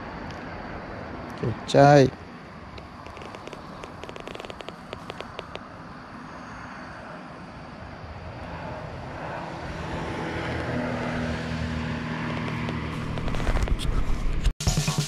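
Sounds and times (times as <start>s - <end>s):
distant engine drone: 0.0s - 14.4s.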